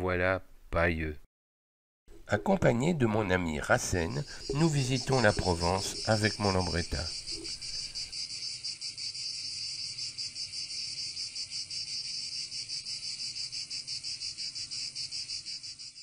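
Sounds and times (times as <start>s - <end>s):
insects chirring: 2.4s - 16.0s.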